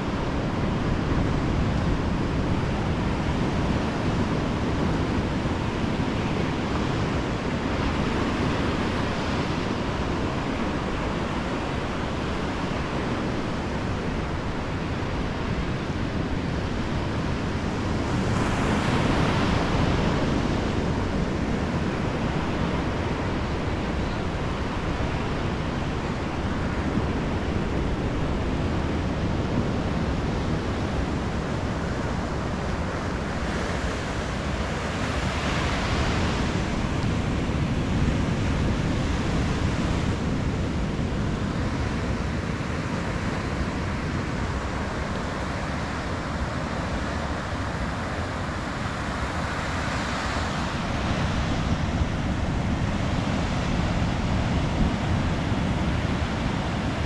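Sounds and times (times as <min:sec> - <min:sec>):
ocean waves breaking on beach: 0:00.0 - 0:57.0
wind rumble on microphone: 0:00.0 - 0:57.0.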